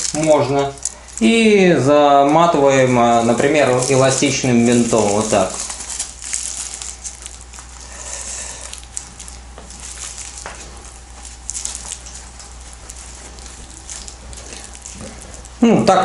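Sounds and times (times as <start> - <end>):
bandage rustling and crinkling: 0.0 - 16.0.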